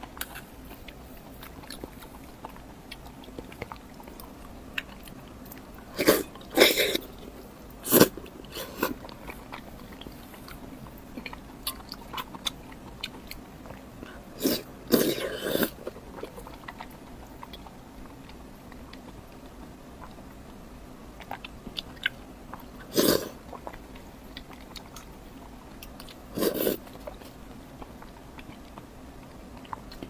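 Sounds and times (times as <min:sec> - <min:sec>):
chewing with mouth clicks: 0:00.0 - 0:30.0.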